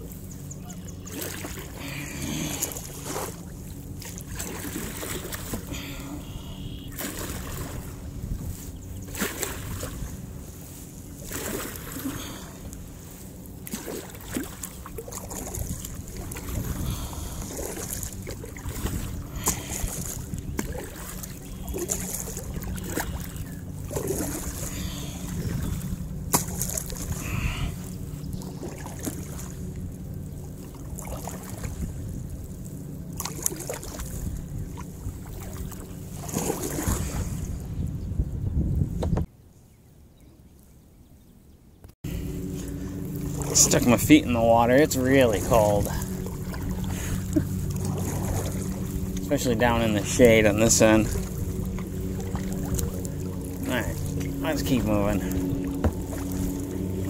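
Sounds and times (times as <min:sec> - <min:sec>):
paddle splashing in water: 0:00.0 - 0:37.7, 0:42.1 - 0:57.0
steady low rumble: 0:00.0 - 0:39.2, 0:42.0 - 0:57.0.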